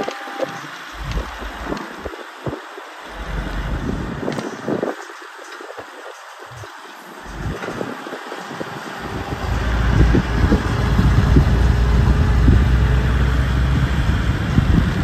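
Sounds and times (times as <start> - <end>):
vehicle engine and road rumble: 0.5 - 4.9, 6.2 - 15.0.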